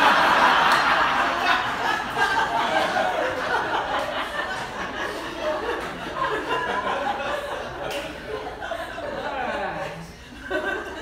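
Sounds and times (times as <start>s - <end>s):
small audience laughing: 0.0s - 11.0s.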